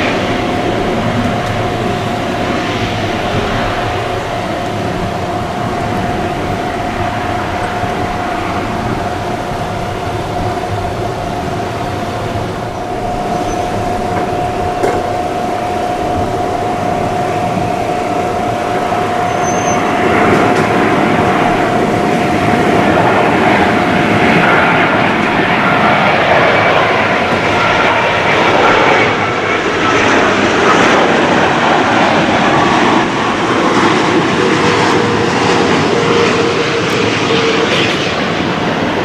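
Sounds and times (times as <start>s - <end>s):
engine rumble: 0.0s - 39.0s
jet engine whine: 0.0s - 39.0s.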